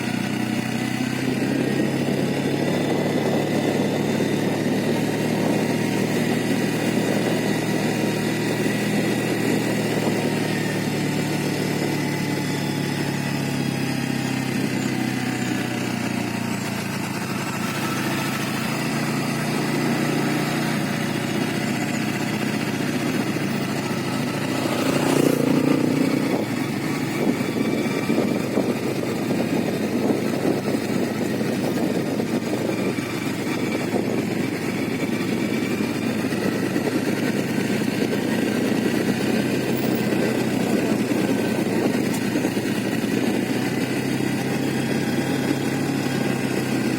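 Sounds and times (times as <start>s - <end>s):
motor vehicle engine running: 0.0s - 46.9s
road noise: 0.0s - 46.9s.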